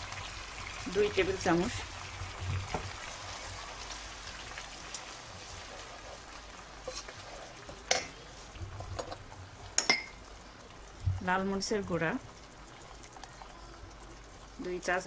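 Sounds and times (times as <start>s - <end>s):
onions sizzling in a frying pan: 0.0s - 15.0s.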